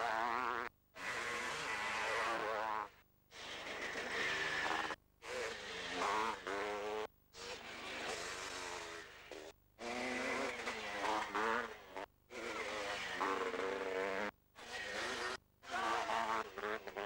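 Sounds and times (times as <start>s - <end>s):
motocross bikes revving past: 0.0s - 17.0s.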